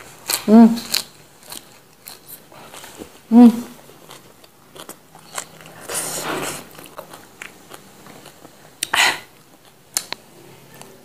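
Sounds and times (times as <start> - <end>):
person chewing with mouth smacks: 0.0 - 10.2.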